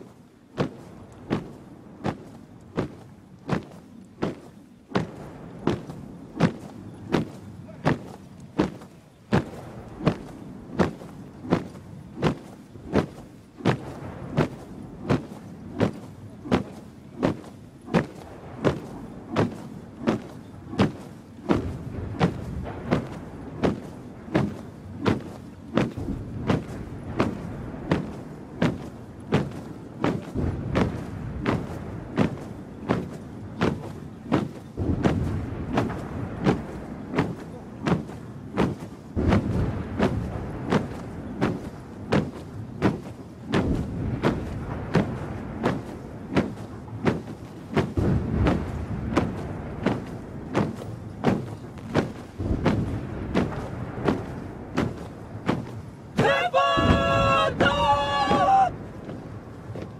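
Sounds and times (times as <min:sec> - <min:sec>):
boots stamping in unison: 0:00.0 - 0:59.9
low background rumble: 0:00.0 - 0:59.9.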